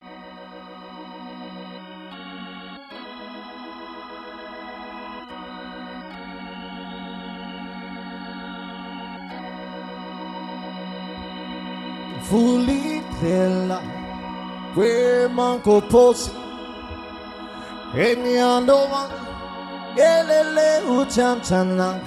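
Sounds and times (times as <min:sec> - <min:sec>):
organ-style keyboard chords: 0:00.0 - 0:22.0.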